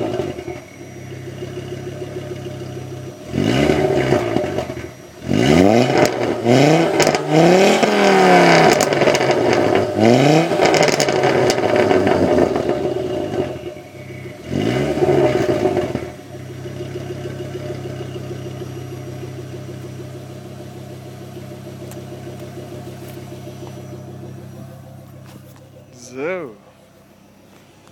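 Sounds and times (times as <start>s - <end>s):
car engine revving then idling: 0.0s - 27.9s.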